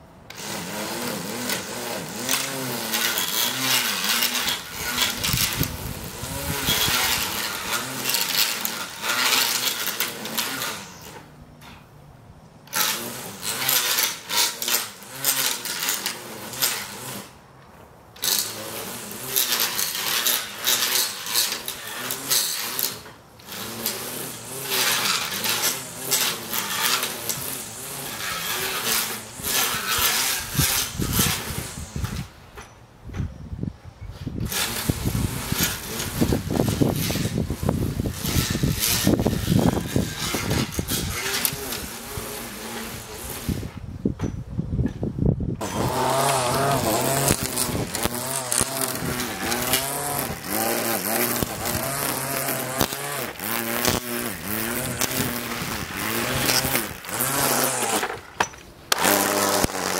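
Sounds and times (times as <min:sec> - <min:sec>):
reel mower blades whirring: 0:00.0 - 0:32.8, 0:34.2 - 0:44.1, 0:45.6 - 0:59.9
grass rustling: 0:00.4 - 0:11.9, 0:12.7 - 0:32.4, 0:34.4 - 0:44.0, 0:45.6 - 0:59.9.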